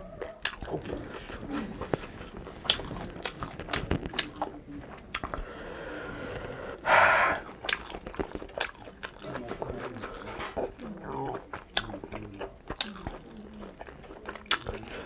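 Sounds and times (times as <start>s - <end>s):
person chewing and crunching food: 0.0s - 15.0s.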